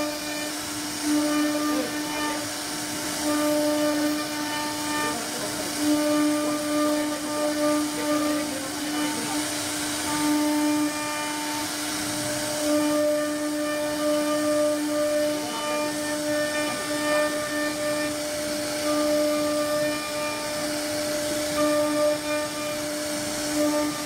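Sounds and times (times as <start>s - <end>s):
hiss of cutting wood: 0.0s - 24.0s
router spindle whine: 0.0s - 24.0s.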